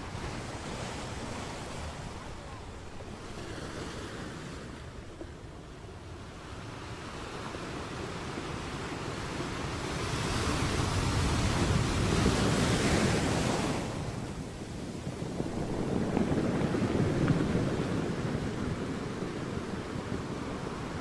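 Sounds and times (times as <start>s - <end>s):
sea waves washing up: 0.0s - 21.0s.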